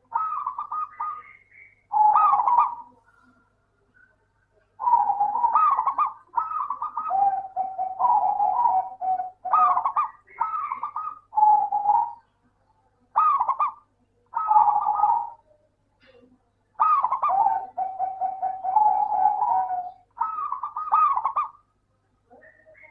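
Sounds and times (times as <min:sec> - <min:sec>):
dove cooing: 0:00.0 - 0:03.4, 0:04.7 - 0:12.4, 0:13.1 - 0:16.2, 0:16.8 - 0:21.7, 0:22.3 - 0:22.9.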